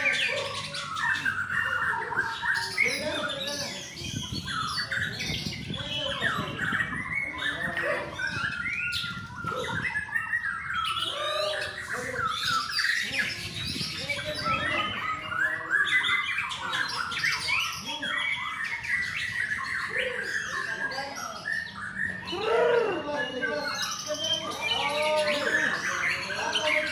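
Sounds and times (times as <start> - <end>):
birds singing: 0.0 - 26.9.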